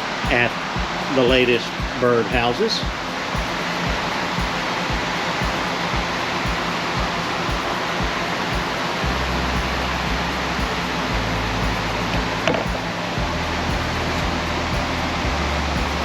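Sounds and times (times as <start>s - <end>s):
fan rushing air: 0.0s - 16.0s
low hum: 0.0s - 16.0s.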